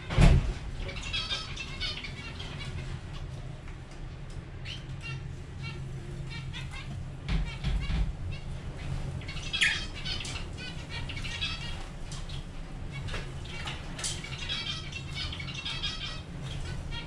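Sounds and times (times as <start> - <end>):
lovebirds chirping: 0.8 - 3.6, 4.6 - 17.0.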